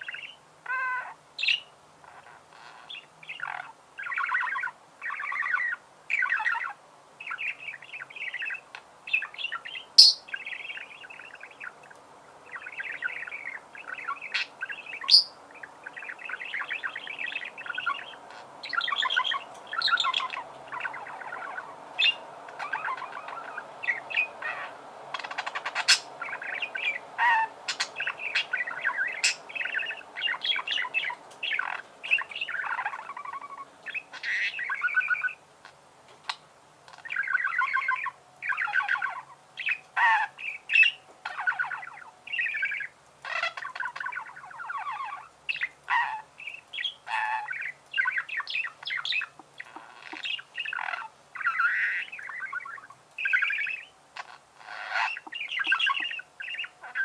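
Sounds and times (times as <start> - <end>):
budgerigars warbling and chattering: 0.0 - 57.0.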